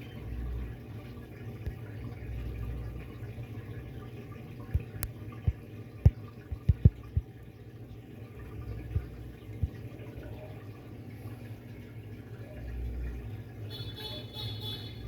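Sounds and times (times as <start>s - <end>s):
washing machine hum: 0.0s - 15.0s
water moving in washing machine: 0.0s - 15.0s.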